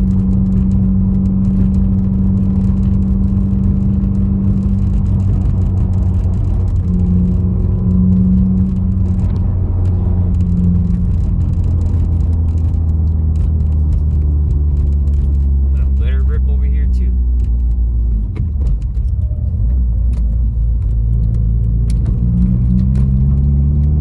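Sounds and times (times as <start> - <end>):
car engine running: 0.0 - 24.0
road rumble: 0.0 - 24.0.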